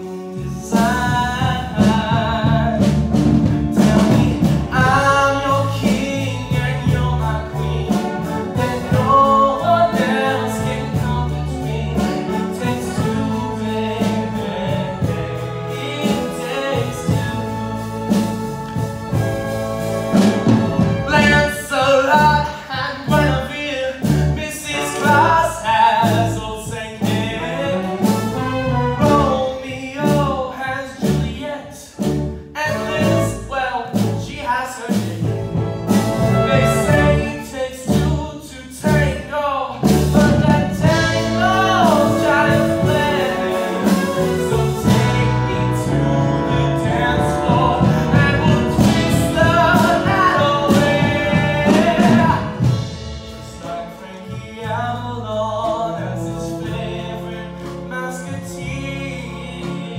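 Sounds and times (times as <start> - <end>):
brass accompaniment with steady beat: 0.0 - 59.9
man singing into a microphone: 0.4 - 3.0, 3.7 - 17.8, 21.0 - 32.0, 32.6 - 35.3, 36.4 - 52.7, 53.5 - 59.9.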